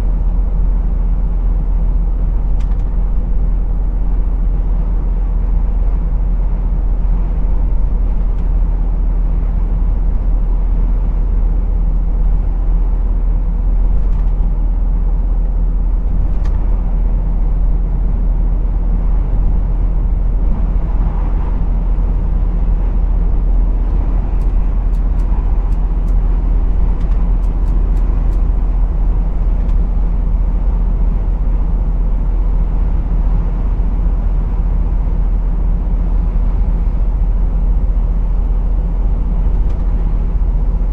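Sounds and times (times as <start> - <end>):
road noise: 0.0 - 40.9
truck engine rumble: 0.0 - 40.9.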